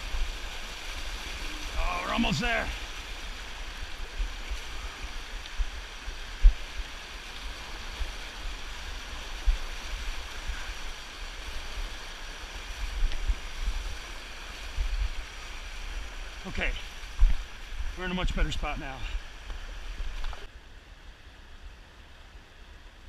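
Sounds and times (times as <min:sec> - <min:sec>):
river rushing over rocks: 0:00.0 - 0:20.5.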